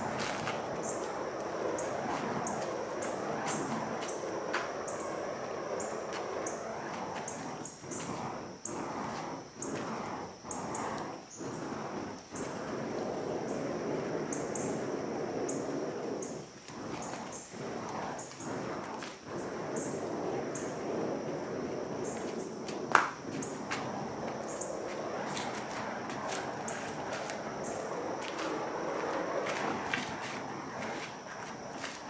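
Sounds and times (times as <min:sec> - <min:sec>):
fire hoop whooshing: 0:00.0 - 0:32.0.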